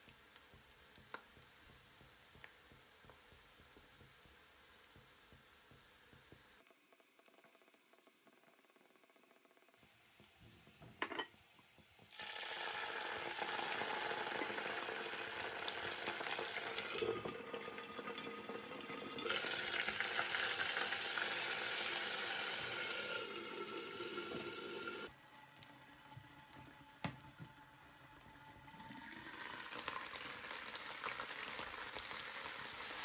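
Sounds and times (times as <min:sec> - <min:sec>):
sizzling and bubbling in hot oil: 0:00.0 - 0:33.0.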